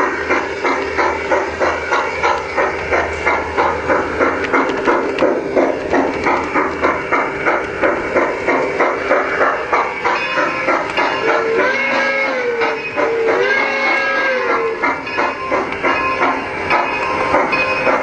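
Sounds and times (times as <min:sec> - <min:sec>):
model steam locomotive chuffing: 0:00.0 - 0:18.0.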